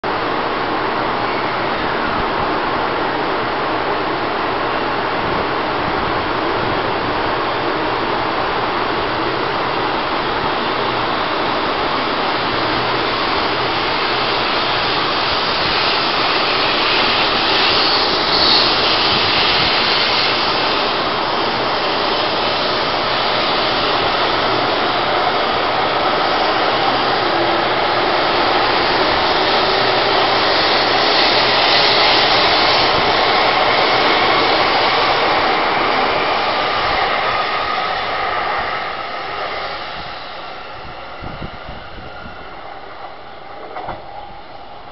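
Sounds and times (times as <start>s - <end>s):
high-speed train rushing past: 0.0s - 44.9s.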